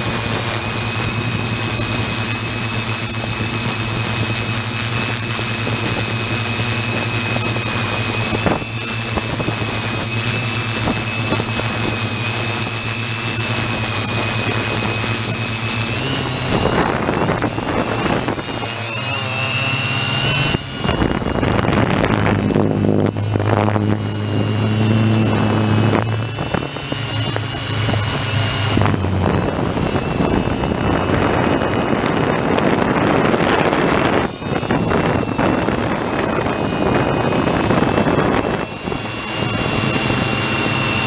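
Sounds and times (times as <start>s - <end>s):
drone propellers high whine: 0.0s - 41.0s.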